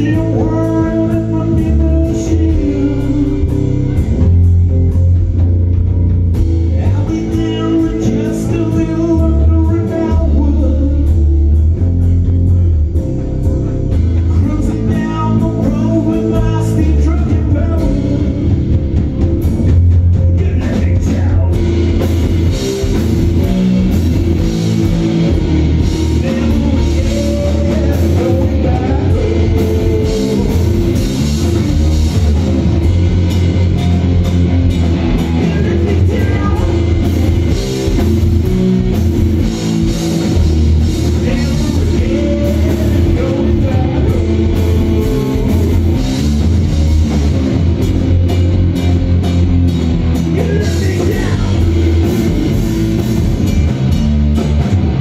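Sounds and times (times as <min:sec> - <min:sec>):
drum kit: 0:00.0 - 0:55.0
electric guitars: 0:00.0 - 0:55.0.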